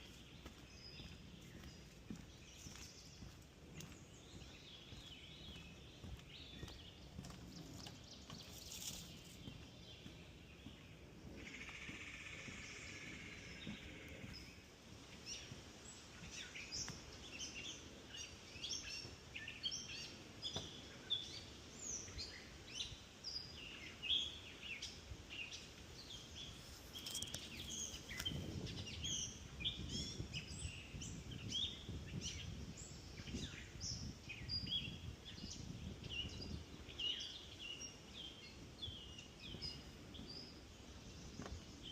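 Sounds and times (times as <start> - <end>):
birds chirping and singing: 0.0 - 41.9.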